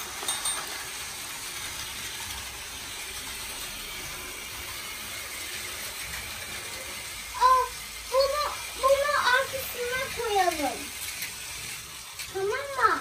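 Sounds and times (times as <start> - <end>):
toy train motors whirring: 0.0 - 13.0.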